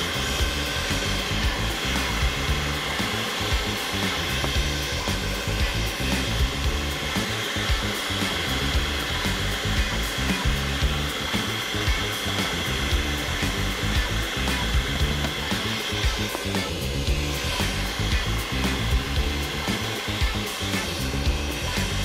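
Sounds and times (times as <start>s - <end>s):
food processor motor whine: 0.0s - 22.0s.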